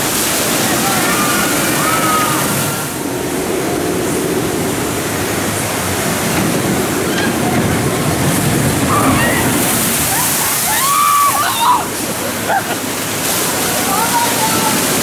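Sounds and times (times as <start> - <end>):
water rushing down chute: 0.0 - 15.0.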